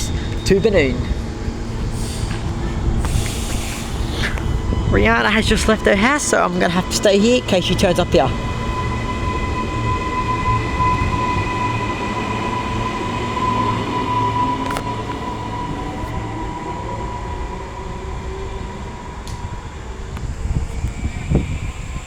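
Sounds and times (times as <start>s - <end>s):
electric train rumbling: 0.0s - 22.0s
train high-pitched whine: 0.0s - 22.0s.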